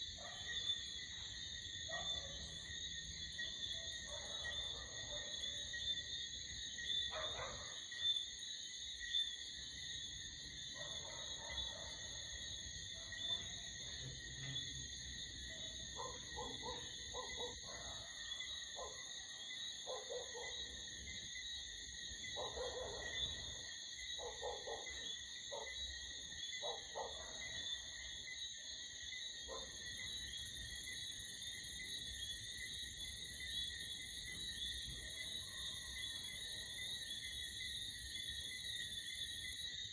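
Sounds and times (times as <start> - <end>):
chorus of night insects: 0.0 - 39.9.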